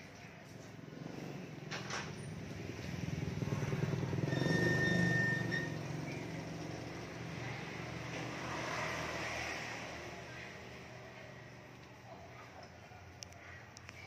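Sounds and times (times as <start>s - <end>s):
motorbike passing: 0.4s - 12.6s.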